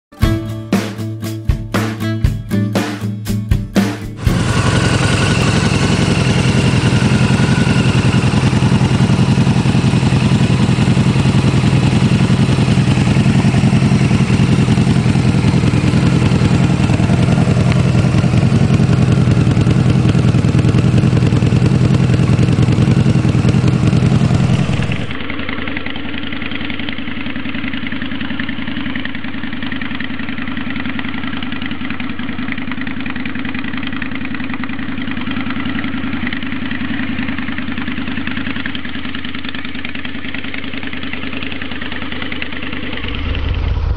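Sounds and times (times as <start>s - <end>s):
motorcycle engine idling: 4.2s - 43.9s.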